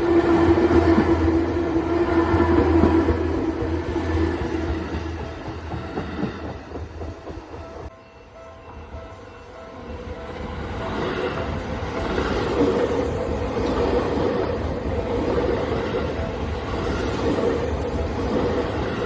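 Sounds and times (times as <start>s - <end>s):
crossing warning bell tones: 0.0s - 19.0s
electric train rumbling past: 0.0s - 19.0s.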